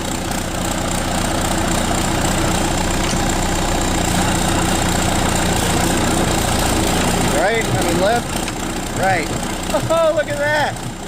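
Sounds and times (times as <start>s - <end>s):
dozer diesel engine running: 0.0s - 11.0s.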